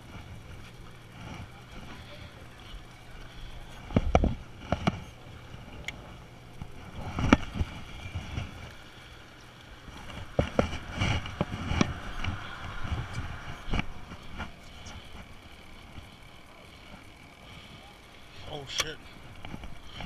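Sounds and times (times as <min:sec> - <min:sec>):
boat engine hum: 0:00.0 - 0:20.0
fishing rod and reel clicking: 0:02.8 - 0:20.0.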